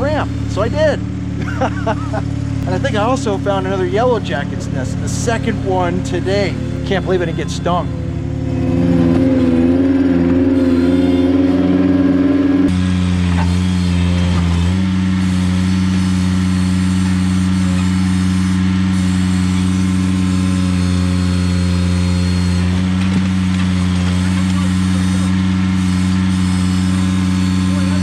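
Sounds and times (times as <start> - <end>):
compact tractor engine running: 0.0 - 28.0.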